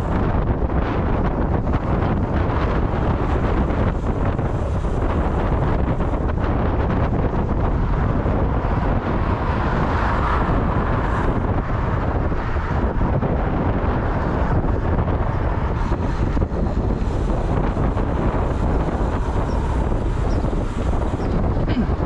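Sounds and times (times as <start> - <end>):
vehicle and road rumble: 0.0 - 22.0
wind buffeting microphone: 0.0 - 22.0.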